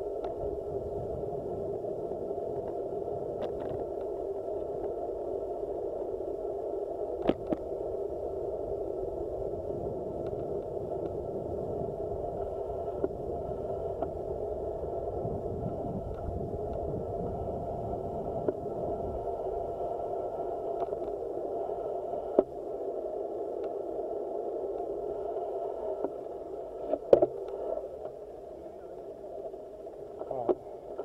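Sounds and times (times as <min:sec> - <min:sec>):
bicycle rolling rumble: 0:00.0 - 0:31.0
steady hum: 0:00.0 - 0:31.0.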